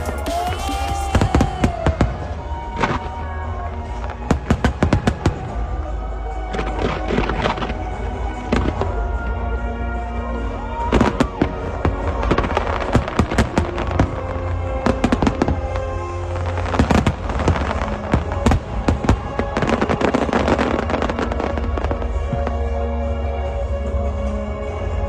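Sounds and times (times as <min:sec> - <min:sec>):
fireworks banging and crackling: 0:00.0 - 0:25.0
music playing: 0:00.0 - 0:25.0.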